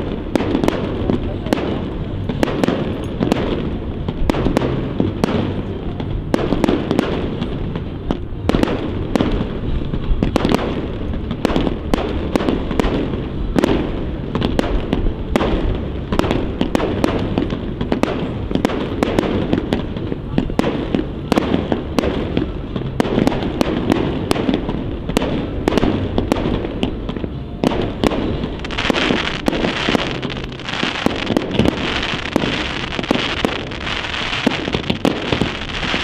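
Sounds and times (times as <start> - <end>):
constant low rumble: 0.0 - 36.0
firework bursts and bangs: 0.0 - 36.0.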